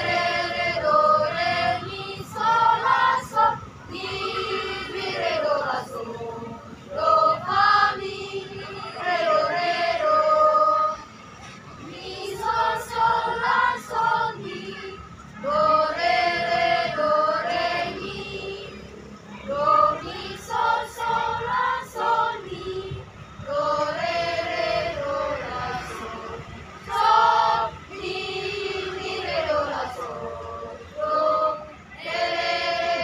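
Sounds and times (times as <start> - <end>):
children's choir singing: 0.0 - 33.0.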